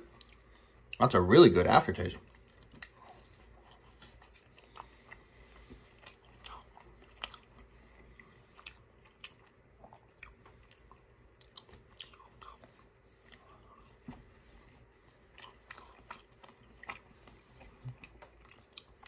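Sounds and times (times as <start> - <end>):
biting and chewing crispy chicken: 2.2 - 14.2, 14.9 - 19.0.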